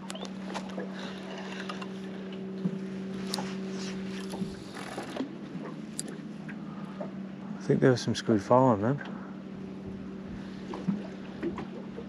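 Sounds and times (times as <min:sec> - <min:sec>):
small boat motor humming: 0:00.0 - 0:12.0
water lapping: 0:00.0 - 0:12.0.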